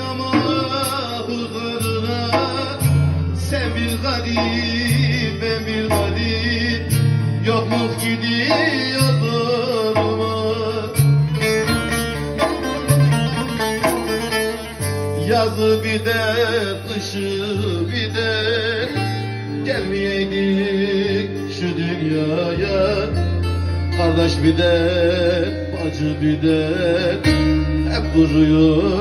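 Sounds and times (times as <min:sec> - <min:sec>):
man singing ornamented melody: 0:00.0 - 0:12.3, 0:13.0 - 0:29.0
long-necked lute playing: 0:00.0 - 0:29.0
sustained low bass notes: 0:00.0 - 0:29.0.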